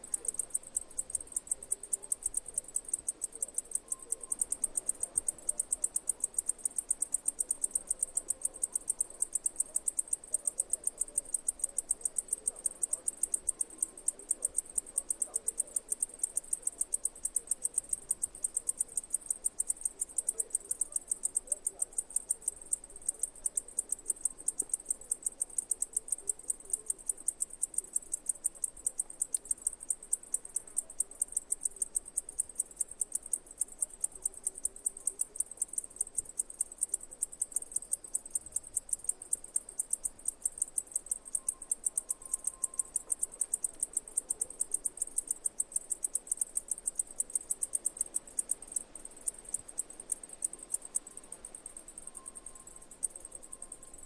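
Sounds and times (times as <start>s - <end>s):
insect chirping: 0.0s - 54.0s.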